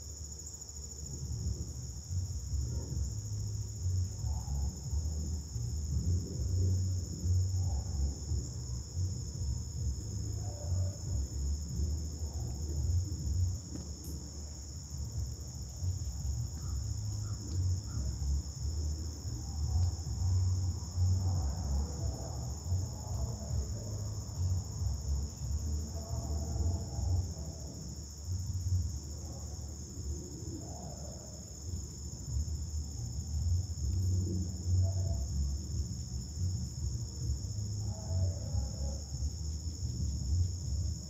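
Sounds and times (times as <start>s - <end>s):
insect chorus drone: 0.0s - 41.0s
uneven low rumble: 1.0s - 41.0s.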